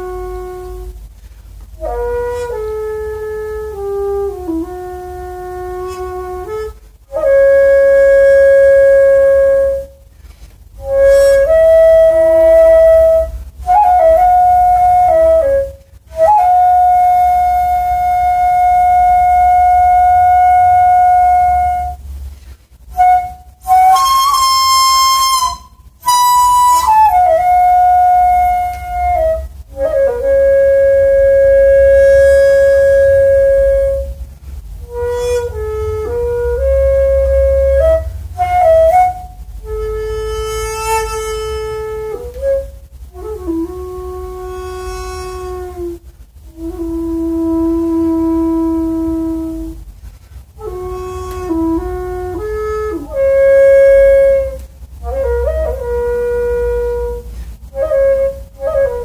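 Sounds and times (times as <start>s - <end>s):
bamboo flute melody: 0.0s - 59.0s.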